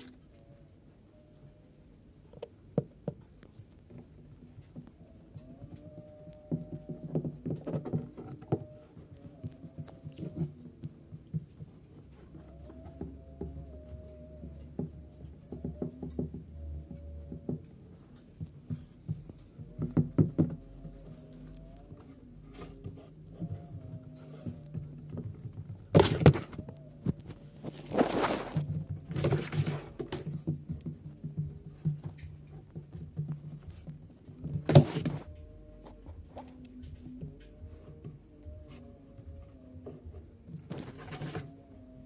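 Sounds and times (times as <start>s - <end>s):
thumps: 3.9s - 41.6s.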